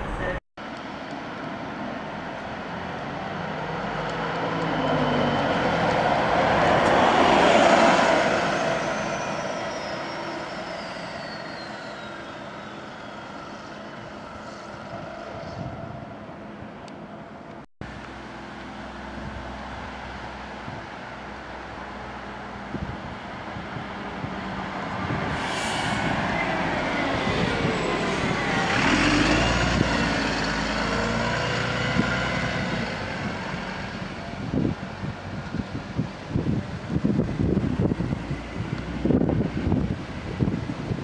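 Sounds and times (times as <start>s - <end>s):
bus driving past: 0.0s - 41.0s.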